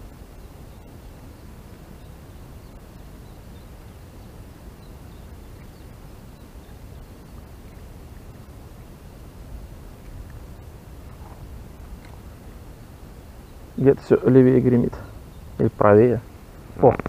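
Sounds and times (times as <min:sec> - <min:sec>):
faint bird chirps: 0:00.0 - 0:17.0
wind on microphone: 0:00.0 - 0:17.0.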